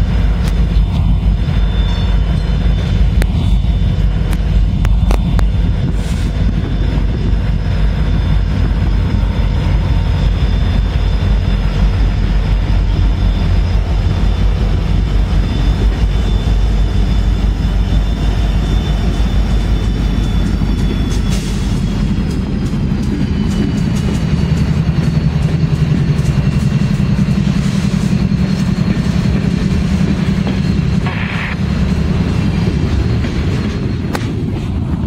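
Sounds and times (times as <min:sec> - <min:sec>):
diesel locomotives rumbling past: 0:00.0 - 0:35.0.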